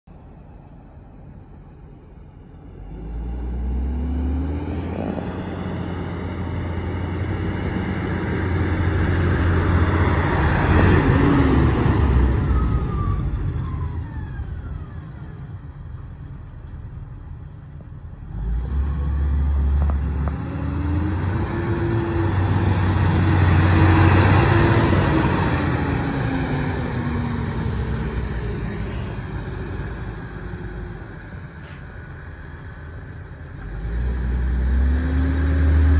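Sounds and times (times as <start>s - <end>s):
tractor diesel engine driving past: 0.1s - 35.9s.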